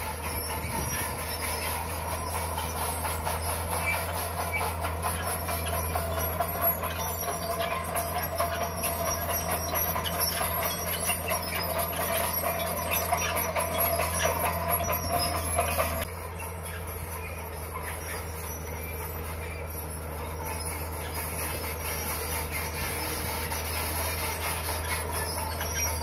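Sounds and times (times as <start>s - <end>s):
bulldozer diesel engine: 0.0s - 26.0s
steel tracks clattering and squealing: 0.0s - 26.0s.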